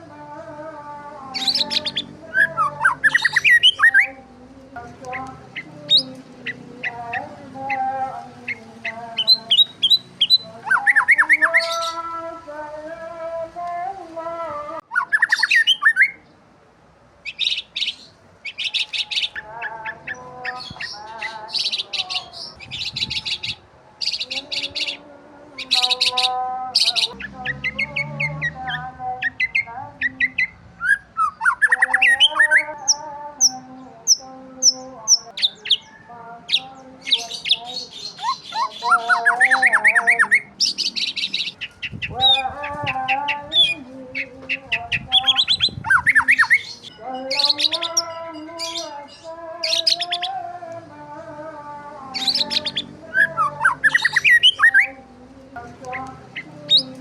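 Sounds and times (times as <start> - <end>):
birds chirping and calling: 0.9 - 16.4, 17.2 - 57.0.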